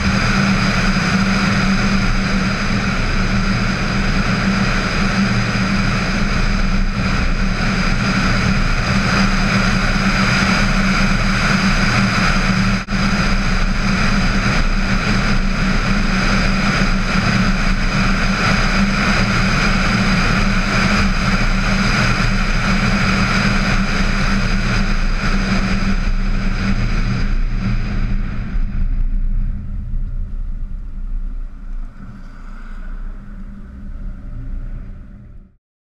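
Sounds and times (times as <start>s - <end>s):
wind and road noise: 0.0s - 35.5s
low hum: 0.0s - 35.6s.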